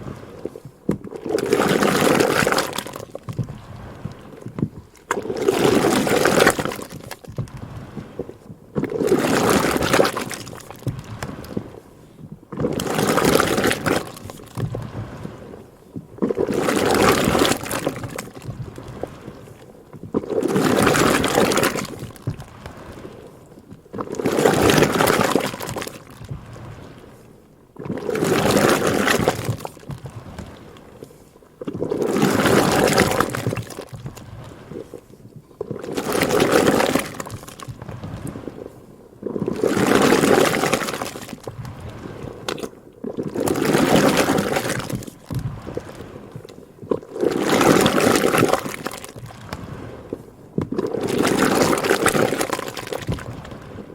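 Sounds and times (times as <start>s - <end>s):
cream sloshing in butter churn: 0.0s - 11.9s, 12.5s - 15.5s, 16.1s - 27.1s, 27.8s - 53.9s.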